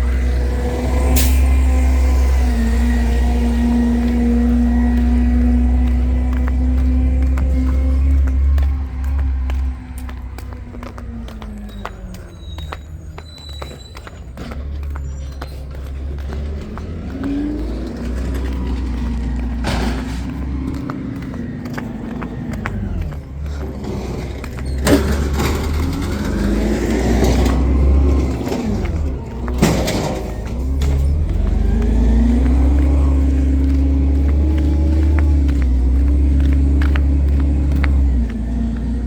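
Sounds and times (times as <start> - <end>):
garbage truck engine revving: 0.0 - 39.0.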